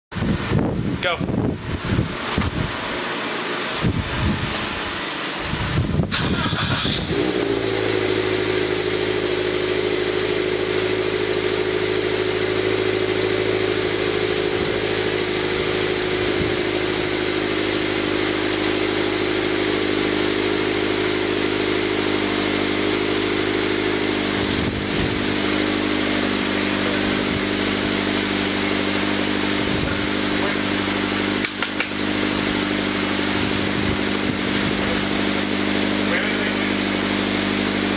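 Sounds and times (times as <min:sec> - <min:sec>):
car engine starting and idling: 0:01.5 - 0:37.9.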